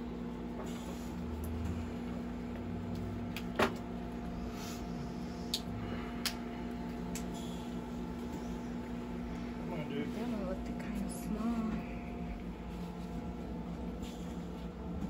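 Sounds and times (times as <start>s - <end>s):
mechanical equipment hum: 0.0s - 15.0s.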